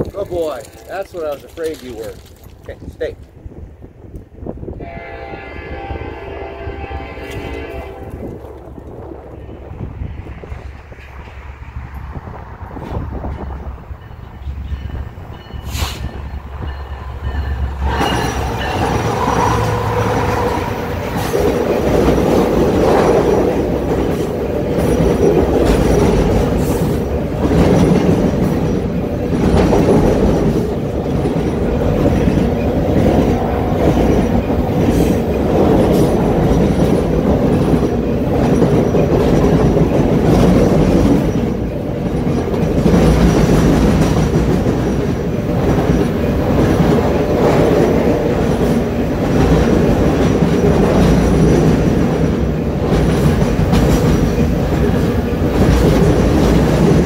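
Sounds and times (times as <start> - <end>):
freight train wheels clattering on bridge: 7.1 - 57.0.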